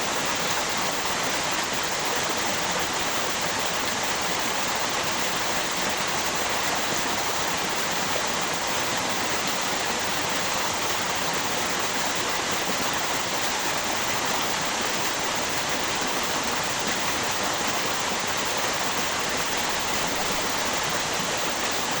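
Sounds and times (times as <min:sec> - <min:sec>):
river water rushing: 0:00.3 - 0:22.0.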